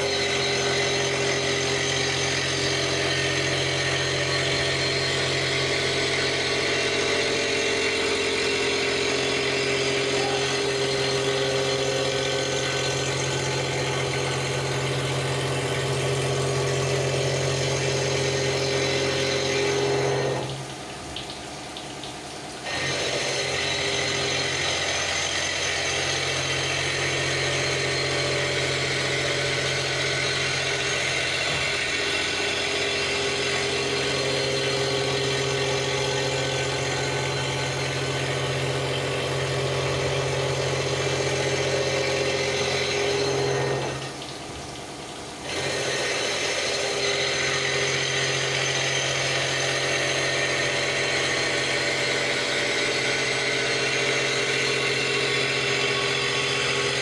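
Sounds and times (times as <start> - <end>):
milling machine hum: 0.0 - 57.0.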